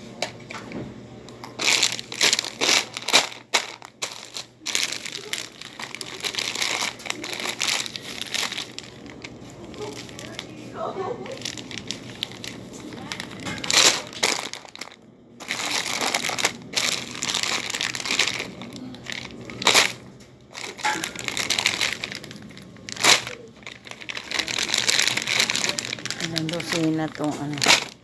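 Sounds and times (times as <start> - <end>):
plastic bags crinkling: 1.4 - 28.0.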